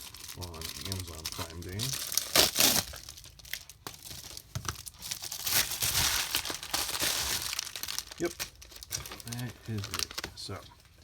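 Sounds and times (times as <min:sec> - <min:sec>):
packaging ripping: 0:00.0 - 0:10.2
packaging crinkling and rustling: 0:00.0 - 0:11.0.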